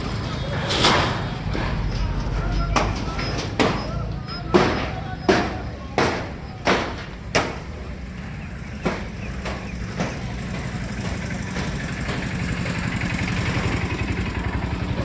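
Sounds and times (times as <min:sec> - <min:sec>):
vehicle engine running: 0:00.0 - 0:15.0
sharp knocks: 0:00.8 - 0:13.5.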